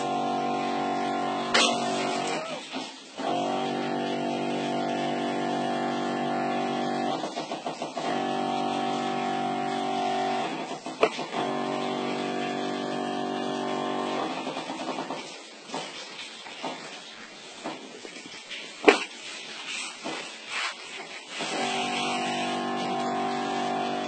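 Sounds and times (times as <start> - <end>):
electric pump humming: 0.0 - 15.7, 20.0 - 24.0.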